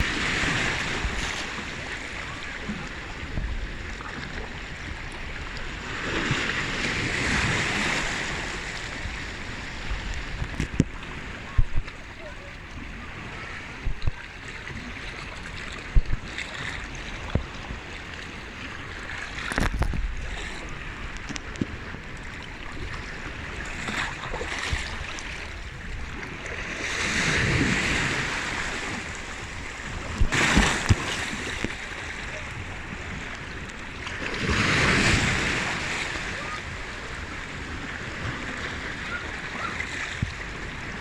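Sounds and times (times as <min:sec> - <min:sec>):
sea waves washing ashore: 0:00.0 - 0:41.0.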